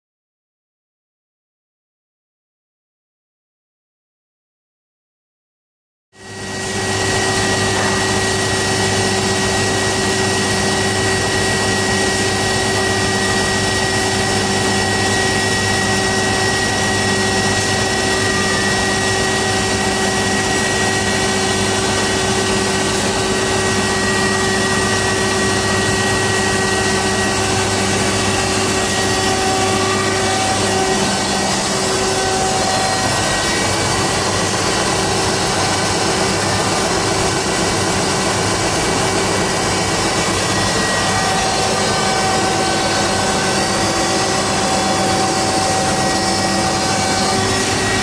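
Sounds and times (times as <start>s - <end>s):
belt sander humming and whining: 6.2s - 48.0s.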